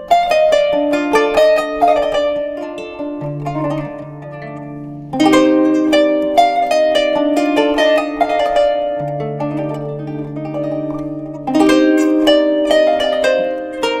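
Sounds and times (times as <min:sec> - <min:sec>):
plucked zither: 0:00.0 - 0:14.0.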